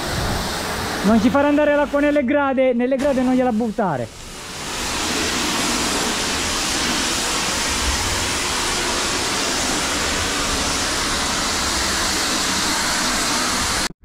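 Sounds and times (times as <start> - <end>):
pressure washer spraying water: 0.0 - 13.9.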